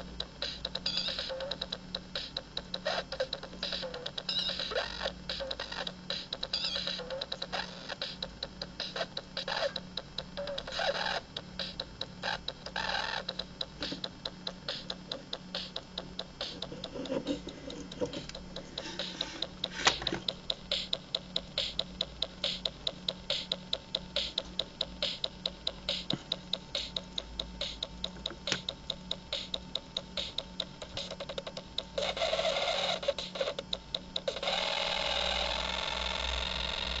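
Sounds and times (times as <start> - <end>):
harsh electronic buzz: 0.0 - 37.0
rapid electronic clicks: 0.0 - 37.0.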